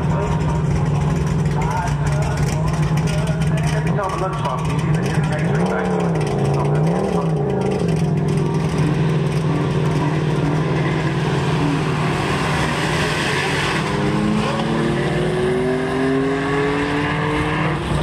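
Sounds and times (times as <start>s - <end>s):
truck engine accelerating: 0.0s - 18.0s.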